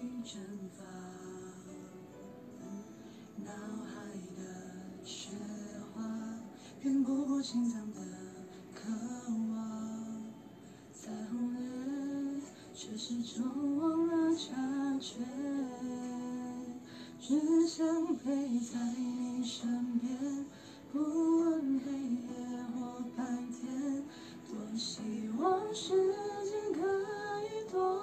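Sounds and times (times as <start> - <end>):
person singing into microphone: 3.4 - 28.0.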